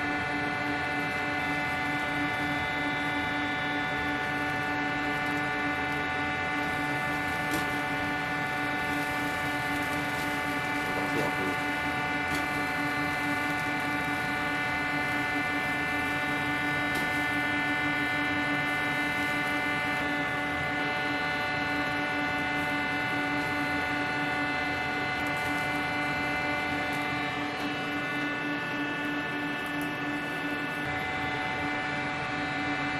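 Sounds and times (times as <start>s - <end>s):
steady machine hum: 0.0s - 32.9s.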